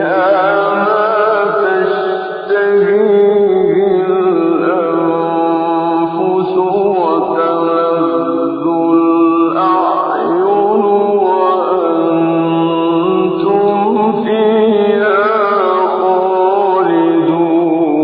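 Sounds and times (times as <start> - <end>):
man chanting recitation: 0.0 - 18.0.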